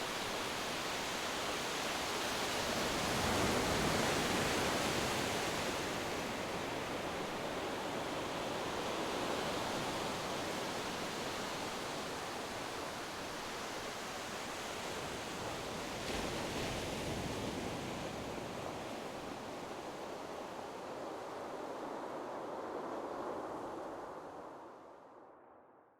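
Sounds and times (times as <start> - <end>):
wind: 0.0 - 25.9.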